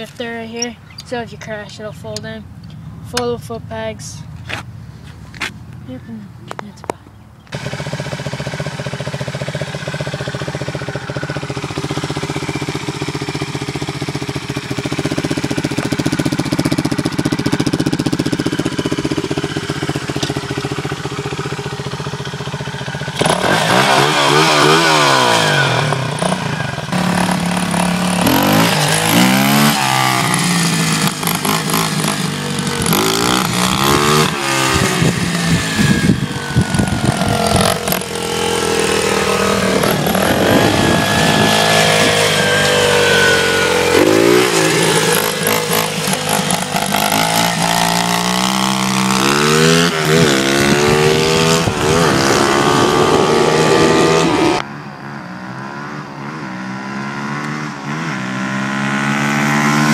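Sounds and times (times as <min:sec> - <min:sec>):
motorbike engine idling and revving: 0:00.0 - 0:59.9
motorbike riding off: 0:07.4 - 0:59.9.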